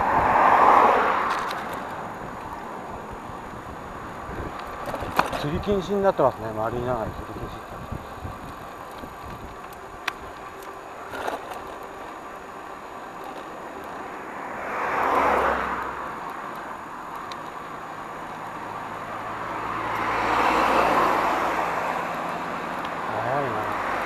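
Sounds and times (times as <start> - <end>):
steady road noise: 0.0 - 24.0
vehicles passing close: 0.0 - 24.0.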